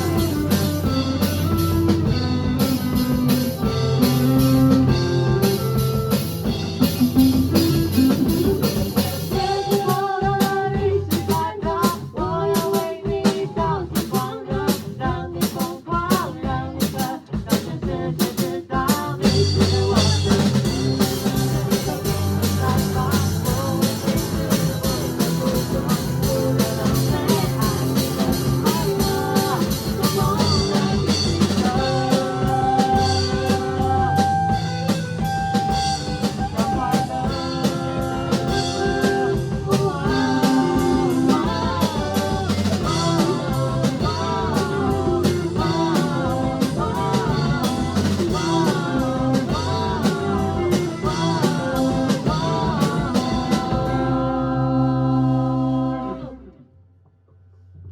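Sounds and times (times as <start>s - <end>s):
rock band music: 0.0s - 54.5s.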